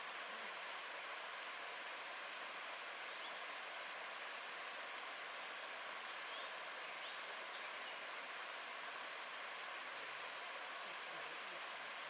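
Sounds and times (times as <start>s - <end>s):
stream water trickling and splashing: 0.0s - 12.0s.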